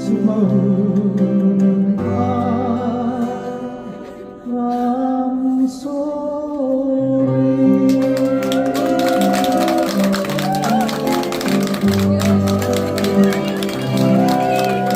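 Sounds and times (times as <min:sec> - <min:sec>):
live ballad music: 0:00.0 - 0:14.9
person singing: 0:00.0 - 0:14.9.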